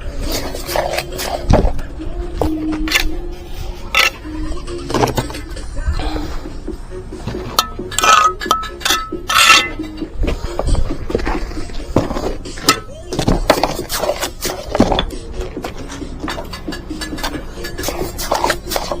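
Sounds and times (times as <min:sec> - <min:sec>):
trowel clinking and scraping bricks: 0:00.0 - 0:05.7, 0:07.2 - 0:19.0.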